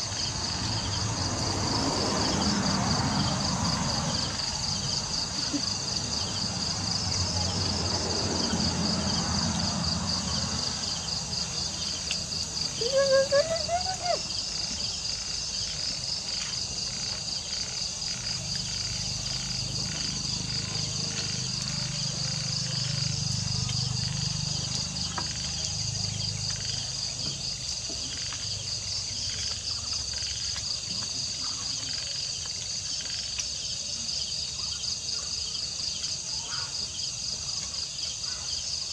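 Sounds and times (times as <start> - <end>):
night insects chirring: 0.0 - 38.9.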